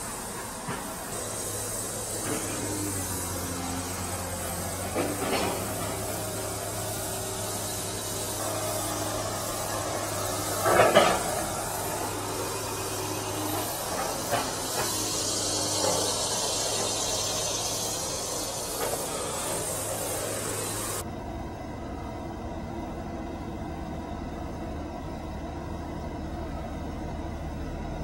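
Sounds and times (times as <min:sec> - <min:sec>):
insects droning: 0:00.0 - 0:27.6.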